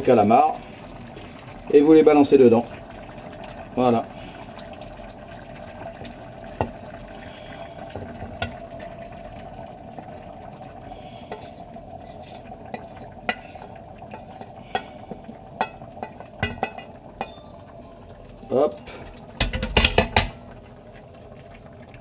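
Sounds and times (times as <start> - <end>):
low simmering hiss: 0.0 - 22.0.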